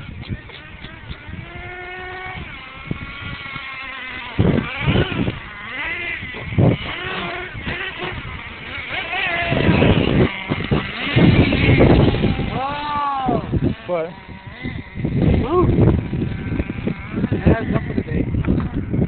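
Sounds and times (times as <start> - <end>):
small two-stroke engine revving: 0.0 - 19.0
loud low rumbling bursts: 1.1 - 19.0.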